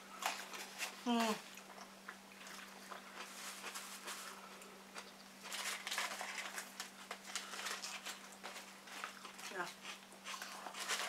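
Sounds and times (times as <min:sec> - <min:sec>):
people chewing: 0:00.1 - 0:11.0.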